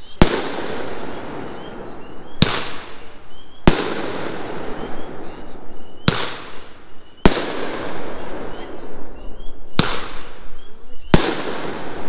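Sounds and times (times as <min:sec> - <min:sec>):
firework reports with rush: 0:00.0 - 0:12.0.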